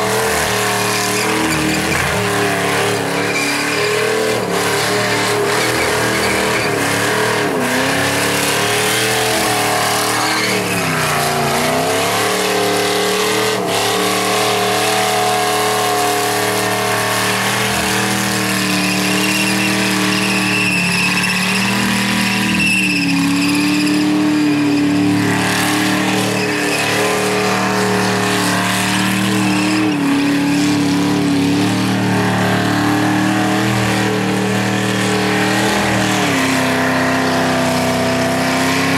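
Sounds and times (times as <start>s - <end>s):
engine at high revs: 0.0s - 38.9s
tyres spinning on tarmac: 0.0s - 38.9s.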